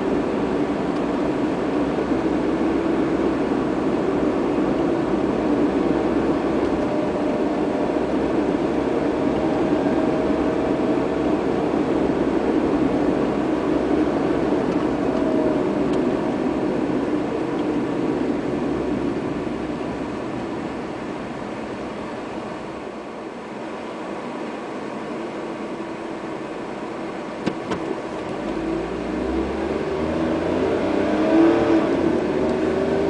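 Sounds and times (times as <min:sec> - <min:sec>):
car interior road and engine rumble: 0:00.0 - 0:33.0.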